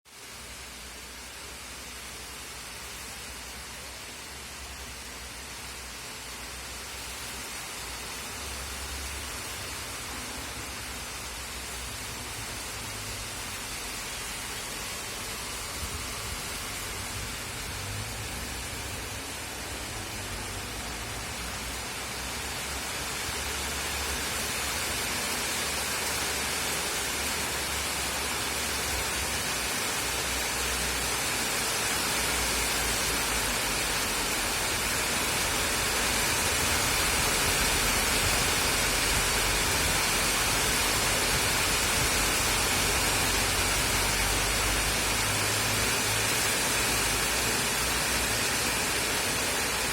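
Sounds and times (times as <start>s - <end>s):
rain falling steadily: 0.1s - 49.9s.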